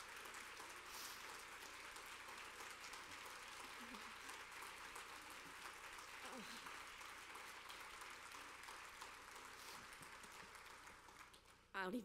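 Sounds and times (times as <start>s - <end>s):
faint audience applause: 0.0s - 11.7s.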